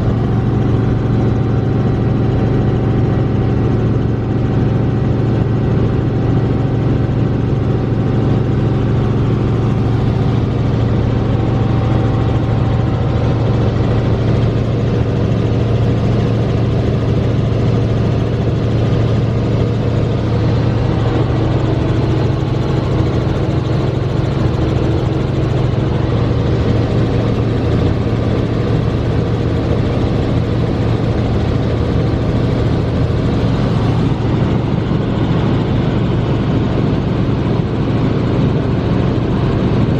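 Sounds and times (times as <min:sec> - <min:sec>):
helicopter drone inside cabin: 0:00.0 - 0:39.9.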